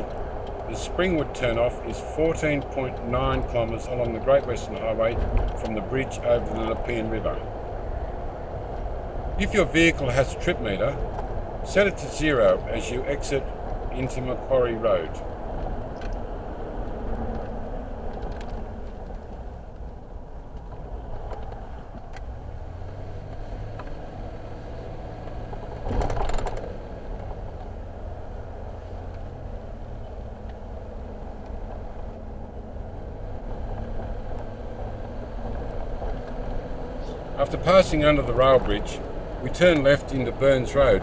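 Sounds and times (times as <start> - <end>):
car engine: 0.0 - 41.0
tyre road noise: 0.0 - 41.0.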